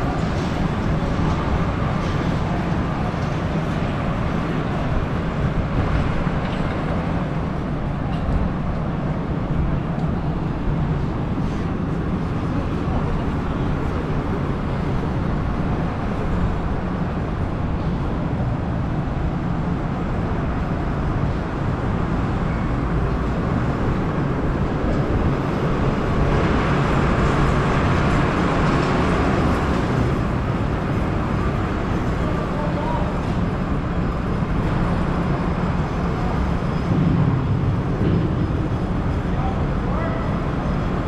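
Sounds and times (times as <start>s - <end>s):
low rumble of city ambience: 0.0s - 41.0s.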